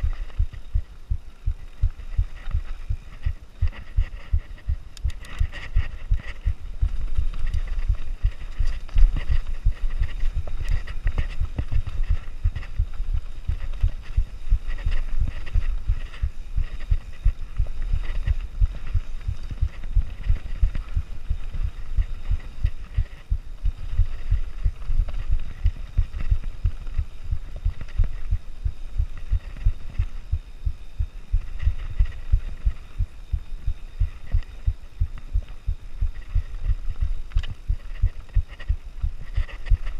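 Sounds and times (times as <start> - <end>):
tyre and wind hiss: 0.0 - 39.9.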